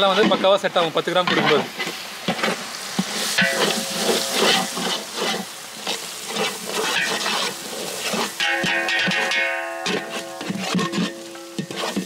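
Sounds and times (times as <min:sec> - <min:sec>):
food sizzling in oil: 0:00.0 - 0:12.0
wooden spatula scraping pot: 0:00.0 - 0:12.0.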